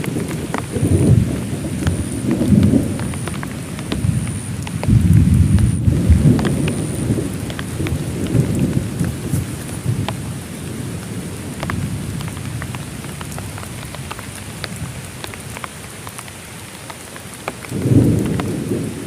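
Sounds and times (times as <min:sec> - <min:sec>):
thunder rumbling: 0:00.0 - 0:14.0, 0:17.6 - 0:19.0
heavy rain: 0:00.0 - 0:19.0
sharp ticks of raindrops: 0:00.0 - 0:19.0.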